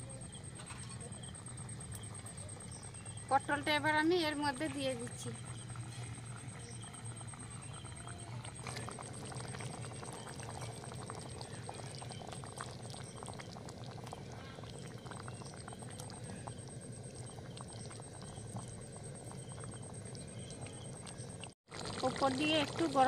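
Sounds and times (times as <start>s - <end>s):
gravy bubbling in a pan: 0.0s - 23.0s.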